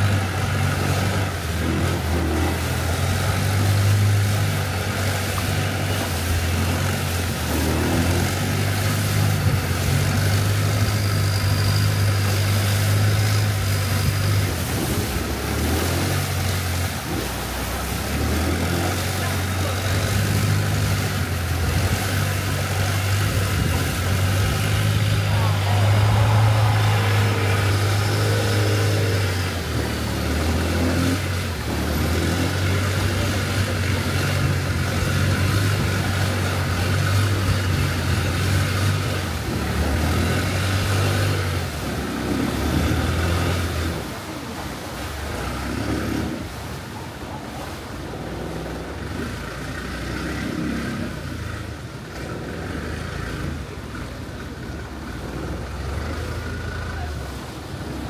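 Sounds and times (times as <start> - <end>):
boat engine running: 0.0 - 58.0
rush of water and wind: 0.0 - 58.0.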